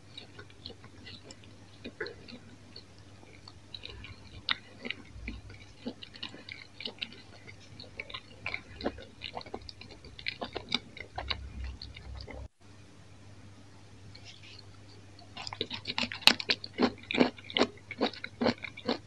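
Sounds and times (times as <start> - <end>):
chewing pizza: 0.0 - 12.5, 14.1 - 19.0.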